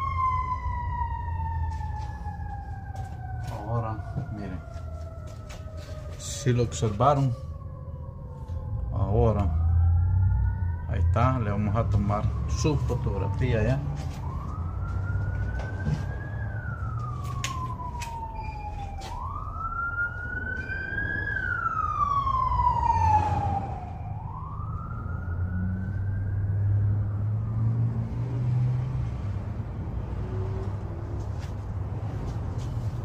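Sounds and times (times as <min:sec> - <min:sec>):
siren wailing: 0:00.0 - 0:33.0.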